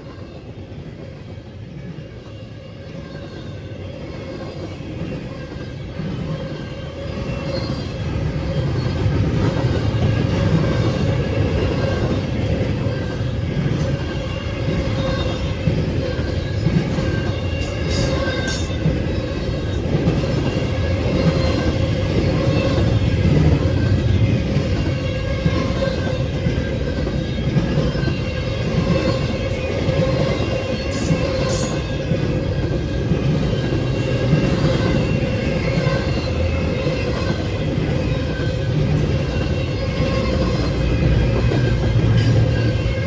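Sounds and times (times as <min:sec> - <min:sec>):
train passing on track: 0:00.0 - 0:43.0.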